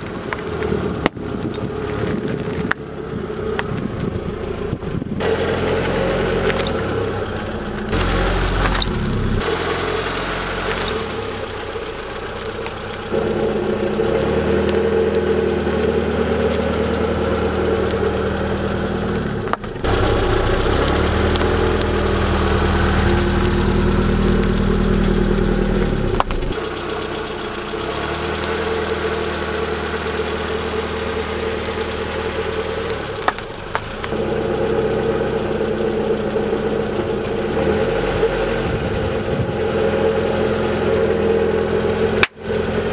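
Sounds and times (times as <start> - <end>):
car engine at low revs: 0.0 - 42.9.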